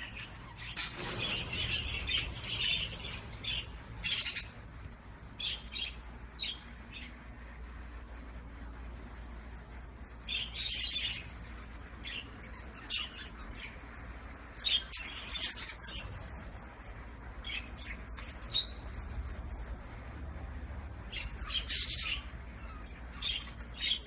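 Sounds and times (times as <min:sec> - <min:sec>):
low steady hum: 0:00.0 - 0:24.0
small cage birds chirping: 0:00.0 - 0:24.0.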